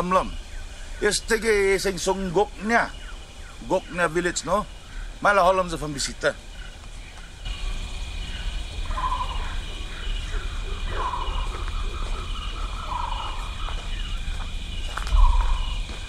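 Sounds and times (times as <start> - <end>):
bird calls: 0.0 - 16.0
steady high whine: 0.0 - 16.0
low rumble: 0.2 - 16.0.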